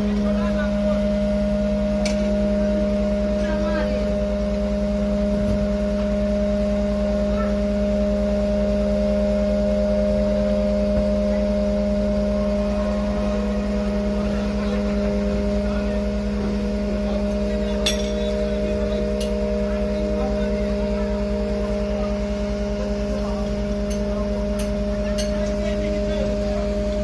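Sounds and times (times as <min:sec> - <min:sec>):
fire engine engine humming: 0:00.0 - 0:27.0.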